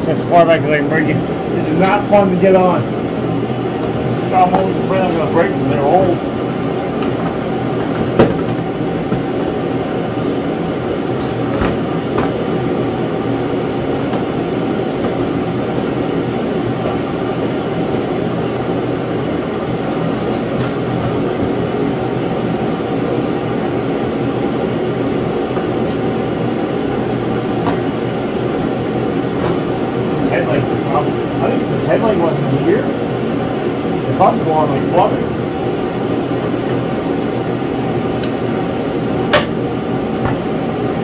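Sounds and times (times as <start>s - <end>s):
heater running loudly: 0.0s - 41.0s.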